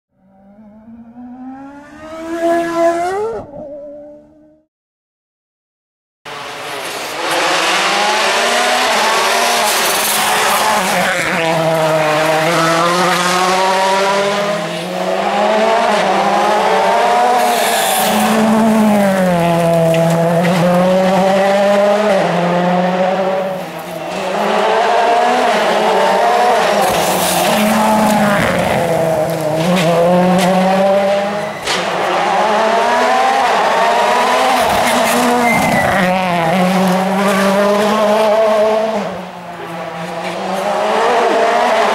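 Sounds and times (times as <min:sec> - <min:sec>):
engines revving high: 0:00.1 - 0:04.6, 0:06.3 - 0:41.9
rally cars passing at speed: 0:00.2 - 0:04.5, 0:06.3 - 0:41.9.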